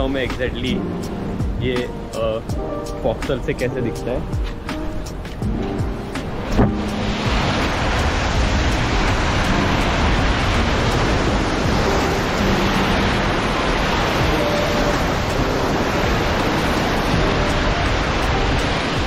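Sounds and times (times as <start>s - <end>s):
wind noise on microphone: 0.0s - 19.0s
bow wave rushing against hull: 3.3s - 19.0s.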